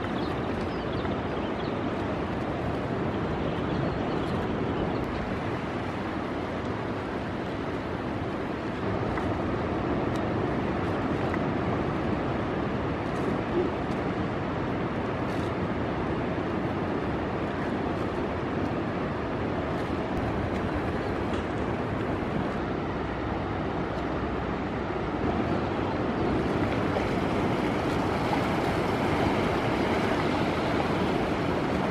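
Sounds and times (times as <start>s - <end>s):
ocean surf: 0.0s - 31.9s
wind on microphone: 0.0s - 31.9s.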